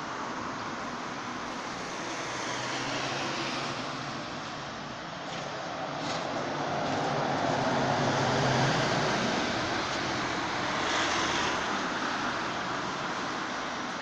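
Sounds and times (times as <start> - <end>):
bus driving past: 0.0 - 14.0.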